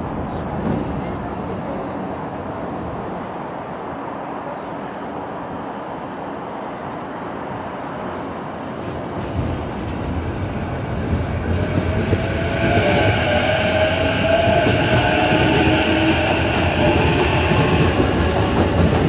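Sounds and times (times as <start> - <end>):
electric train running on rails: 0.0 - 19.0.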